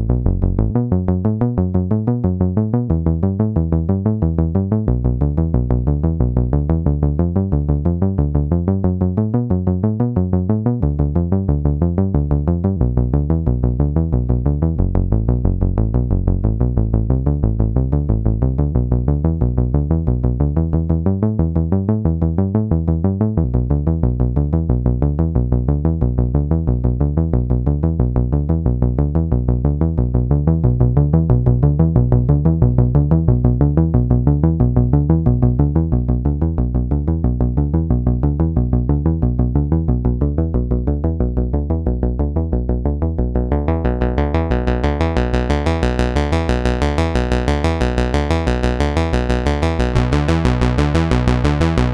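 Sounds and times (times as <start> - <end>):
synthesizer bass sequence: 0.0 - 51.9.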